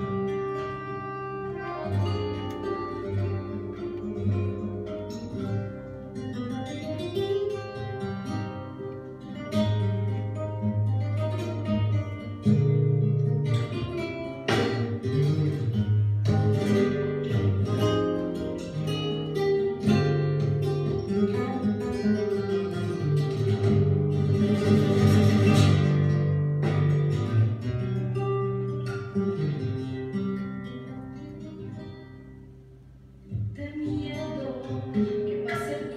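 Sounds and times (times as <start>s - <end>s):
acoustic guitar playing tango: 0.0s - 35.9s.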